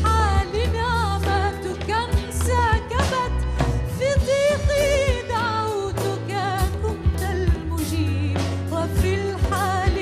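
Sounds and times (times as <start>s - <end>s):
woman singing a hymn: 0.0s - 10.0s.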